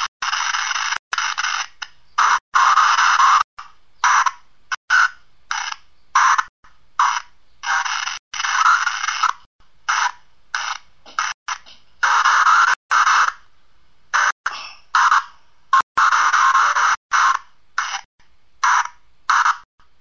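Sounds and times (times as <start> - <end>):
static hiss bursts: 0.0 - 19.7.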